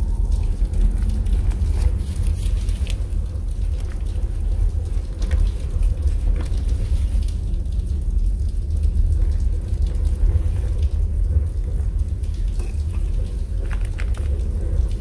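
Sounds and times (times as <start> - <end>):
deep rumble: 0.0 - 15.0
drips and taps: 0.0 - 15.0
steady rain: 0.0 - 15.0.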